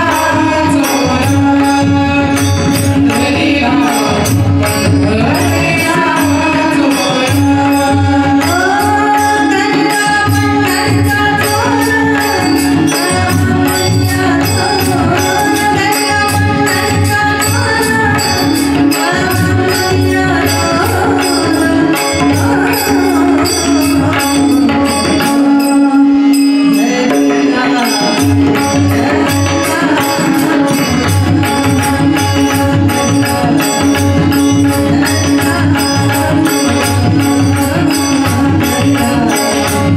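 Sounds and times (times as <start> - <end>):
hand drums: 0.0 - 39.9
harmonium: 0.0 - 39.9
tanpura drone: 0.0 - 39.9
woman singing: 0.0 - 39.9.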